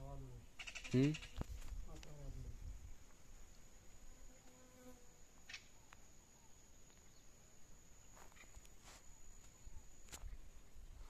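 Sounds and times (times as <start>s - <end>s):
faint high-pitched insect buzz: 0.0s - 11.0s.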